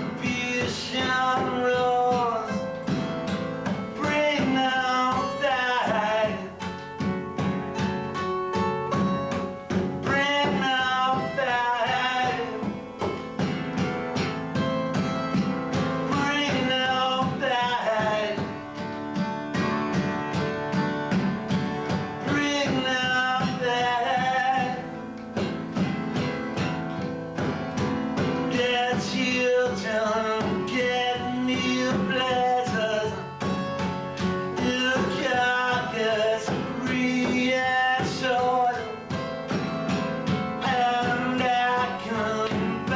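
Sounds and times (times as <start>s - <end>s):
strummed guitar: 0.0s - 42.9s.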